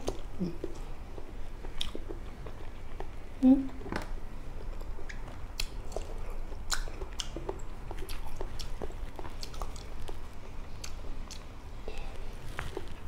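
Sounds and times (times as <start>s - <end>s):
person chewing with mouth smacks: 0.0s - 3.2s, 4.6s - 13.0s.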